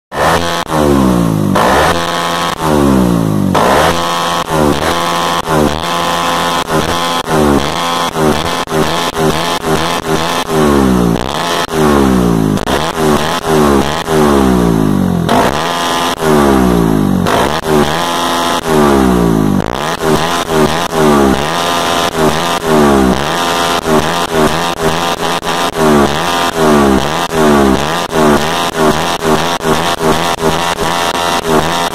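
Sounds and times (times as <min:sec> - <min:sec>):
motorcycle engine revving: 0:00.1 - 0:31.9
exhaust popping and crackling: 0:01.4 - 0:31.9.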